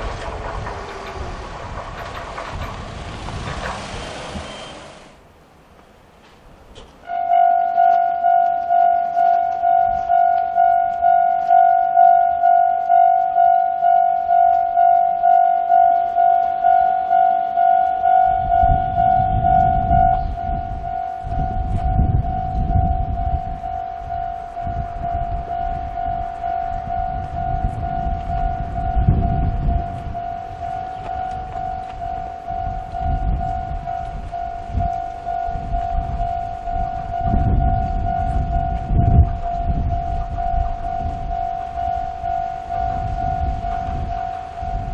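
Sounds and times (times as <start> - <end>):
wind buffeting microphone: 0.0 - 44.9
level crossing electronic bell: 7.1 - 44.9.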